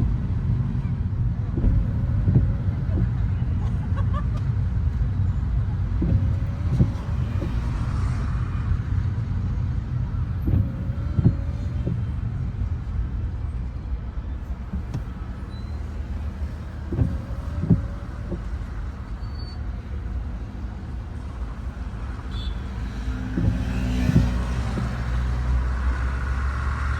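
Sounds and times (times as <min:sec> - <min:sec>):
car road and engine rumble: 0:00.0 - 0:26.9.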